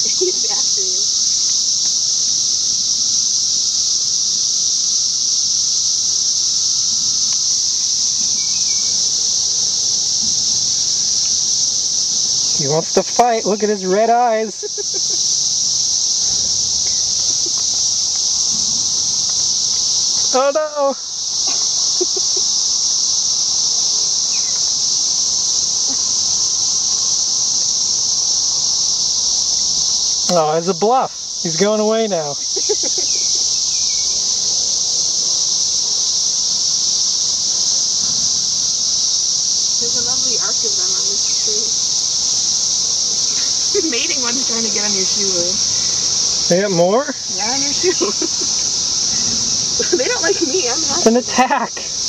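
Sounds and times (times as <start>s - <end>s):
cicadas buzzing: 0.0s - 52.0s.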